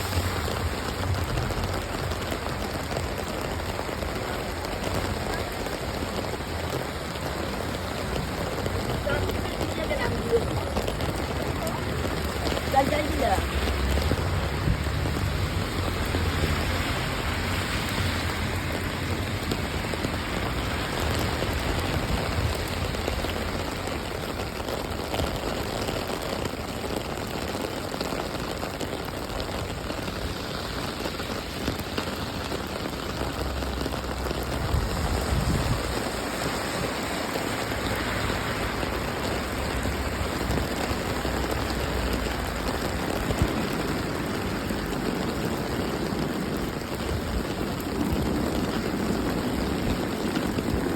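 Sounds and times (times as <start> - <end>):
rain pattering on surfaces: 0.0 - 50.9.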